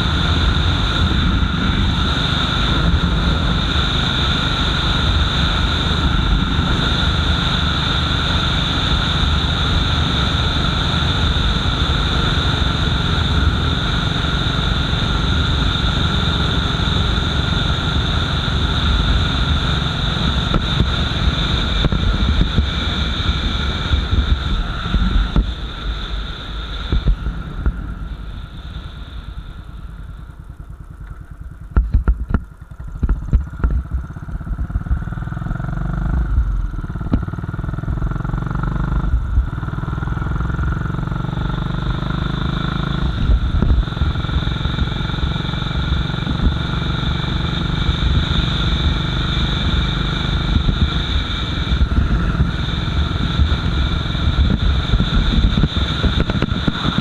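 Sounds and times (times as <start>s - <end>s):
wind noise: 0.0s - 37.7s, 42.8s - 57.0s
motorcycle engine running: 0.0s - 57.0s.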